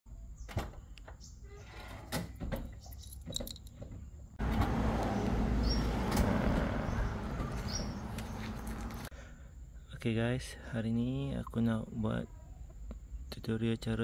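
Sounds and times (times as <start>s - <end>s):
steady outdoor noise: 0.1s - 14.0s.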